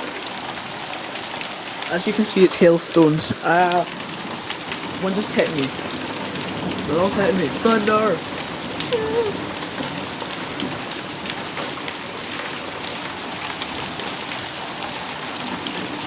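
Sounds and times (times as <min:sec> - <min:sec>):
hail striking surfaces: 0:00.0 - 0:16.0
heavy rain hissing: 0:00.0 - 0:16.0.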